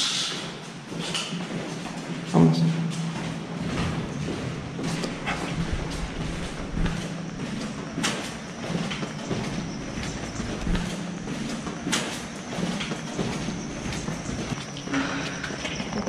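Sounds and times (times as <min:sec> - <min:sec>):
footsteps on concrete: 0:00.6 - 0:16.0
clothing and camera rustle: 0:03.0 - 0:16.0.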